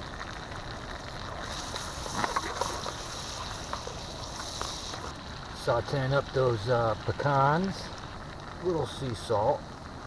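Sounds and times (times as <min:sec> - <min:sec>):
nuts sizzling in butter: 0:00.0 - 0:09.6.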